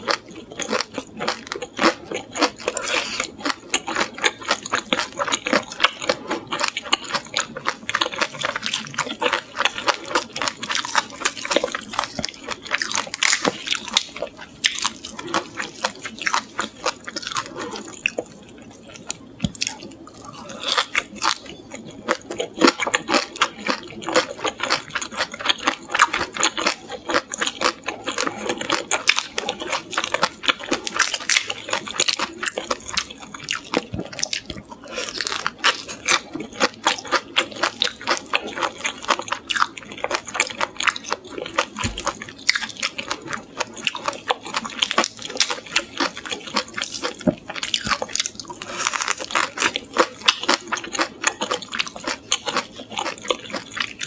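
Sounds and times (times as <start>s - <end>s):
shrimp crunching: 0.0s - 54.0s.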